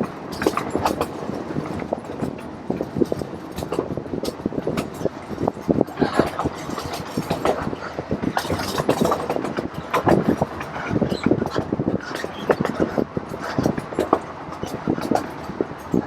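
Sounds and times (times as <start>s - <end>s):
miniature train rattling on track: 0.0s - 16.0s
wheels and couplings knocking: 0.0s - 16.0s.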